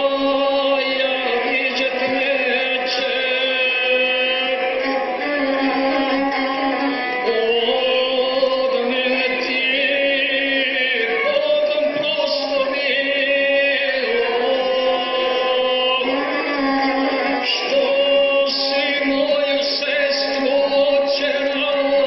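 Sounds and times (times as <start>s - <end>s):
bowed folk fiddle melody: 0.0s - 22.0s.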